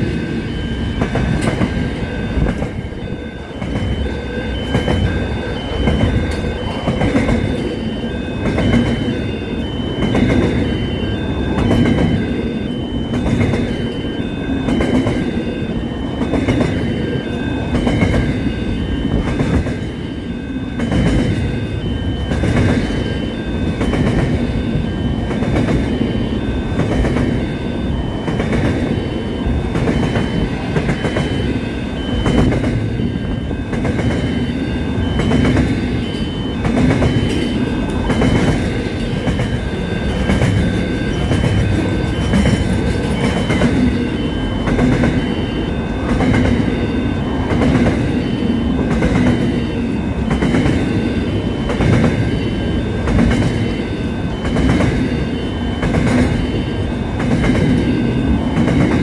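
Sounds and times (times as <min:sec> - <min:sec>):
freight train wagons rumbling: 0:00.0 - 0:59.0
high ringing tone: 0:00.0 - 0:59.0.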